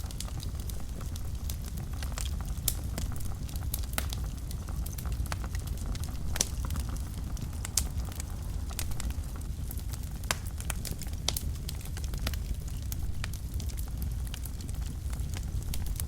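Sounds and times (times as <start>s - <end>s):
fire crackling and popping: 0.0s - 16.0s
fire low rumble: 0.0s - 16.0s.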